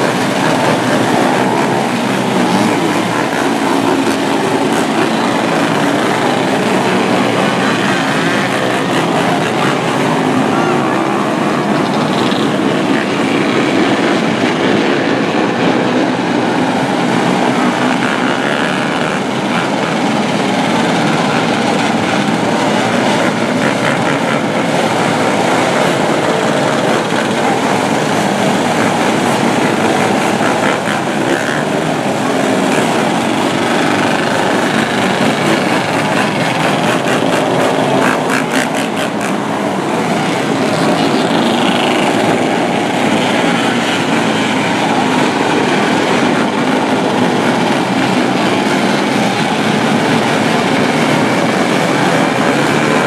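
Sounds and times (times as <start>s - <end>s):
drone of many small engines: 0.0s - 53.0s.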